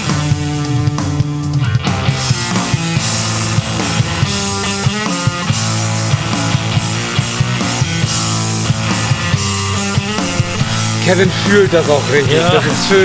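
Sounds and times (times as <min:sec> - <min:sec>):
distorted guitar and bass: 0:00.0 - 0:13.0
drum kit: 0:00.0 - 0:13.0.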